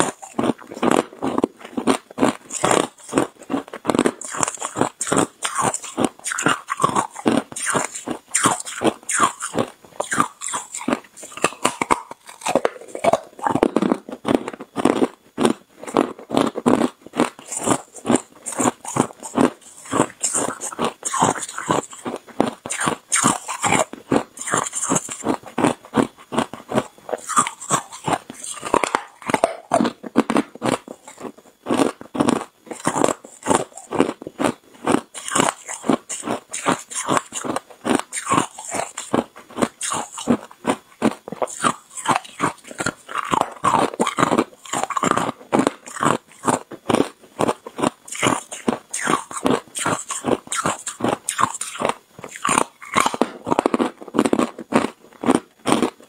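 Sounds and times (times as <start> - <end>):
ice crunching in mouth: 0.0 - 56.0.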